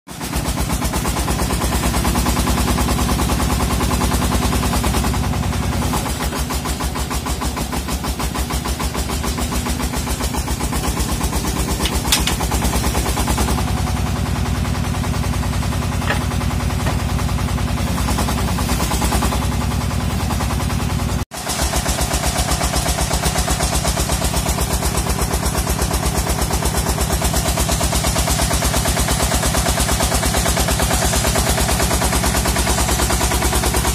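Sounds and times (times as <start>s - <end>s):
drilling machine engine pulsing: 0.1s - 33.9s.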